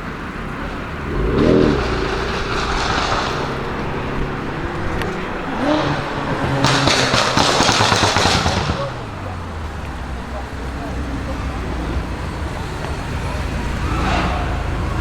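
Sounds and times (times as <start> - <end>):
car engine idling: 0.0 - 15.0
engine revving: 0.4 - 15.0.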